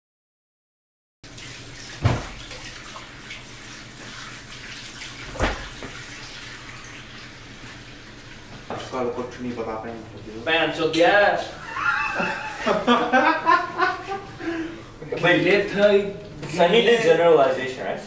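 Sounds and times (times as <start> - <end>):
tap water running: 1.2 - 17.9.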